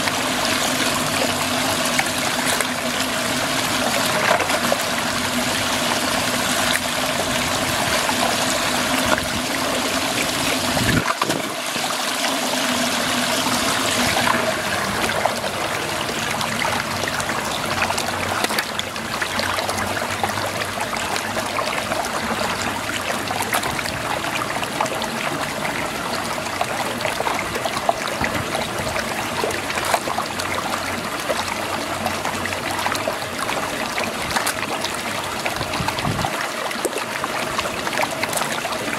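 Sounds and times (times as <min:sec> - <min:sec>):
water swirling down a drain: 0:00.0 - 0:38.9.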